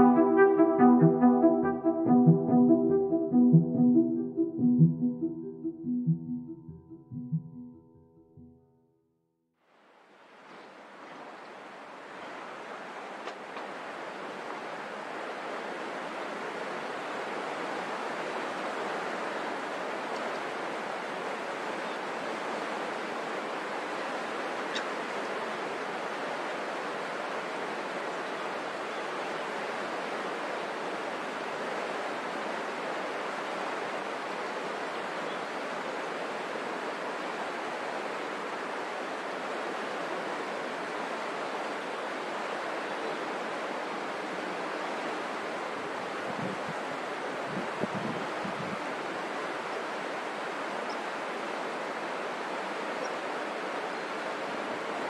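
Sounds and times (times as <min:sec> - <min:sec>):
rushing open water: 0:10.0 - 0:55.0.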